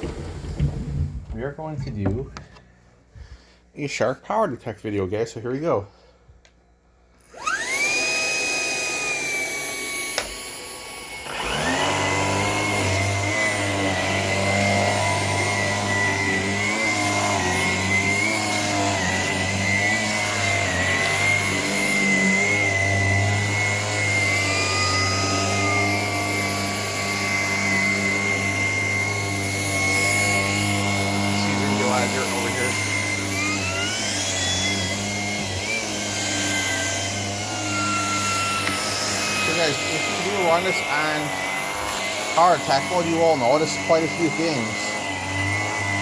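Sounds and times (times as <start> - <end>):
vacuum cleaner motor whine: 0.0 - 2.7, 7.1 - 46.0.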